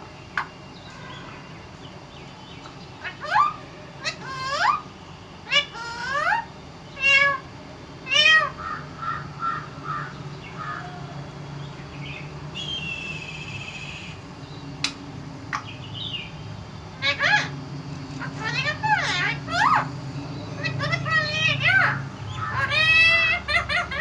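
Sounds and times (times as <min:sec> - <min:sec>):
parrot calling: 0:02.6 - 0:24.0.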